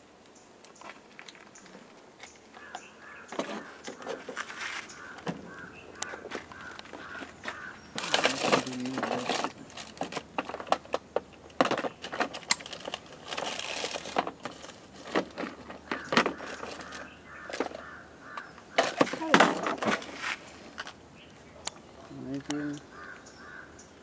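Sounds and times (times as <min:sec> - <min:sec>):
crinkling and rustling handling noises: 0:00.7 - 0:22.8.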